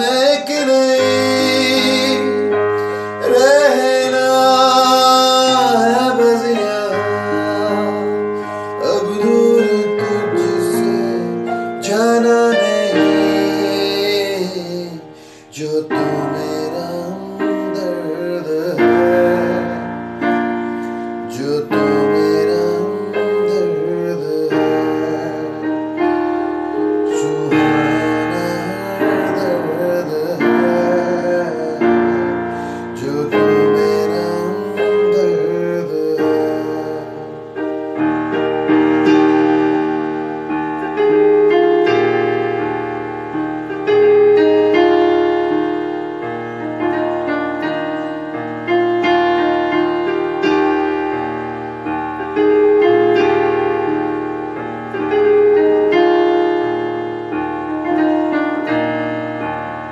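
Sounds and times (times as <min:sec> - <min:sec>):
electronic keyboard piano chords: 0:00.0 - 0:59.9.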